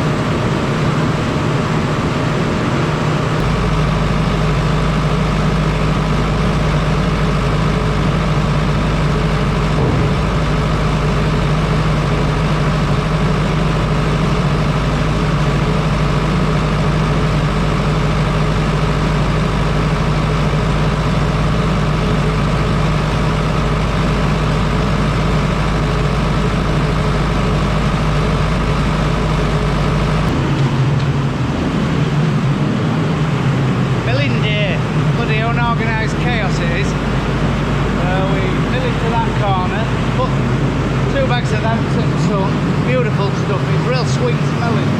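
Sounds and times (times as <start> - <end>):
grain mill machinery droning: 0.0 - 44.9.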